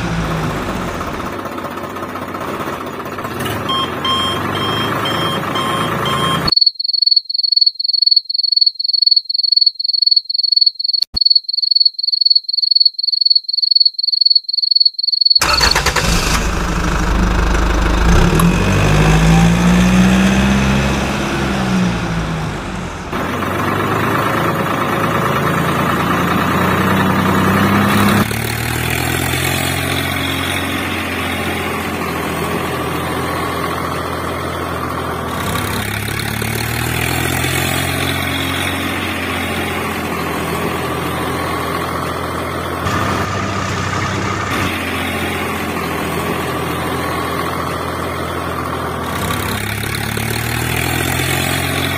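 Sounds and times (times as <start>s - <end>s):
tractor engine running: 0.0s - 6.5s, 15.4s - 51.9s.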